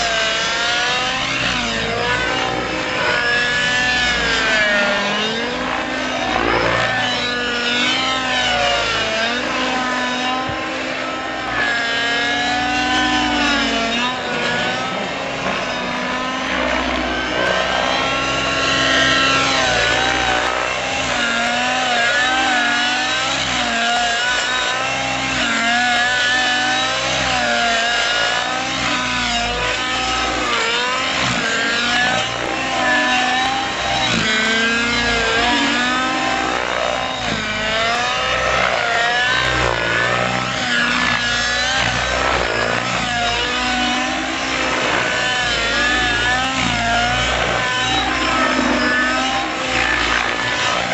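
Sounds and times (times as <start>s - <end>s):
model helicopter engine whine: 0.0s - 50.9s.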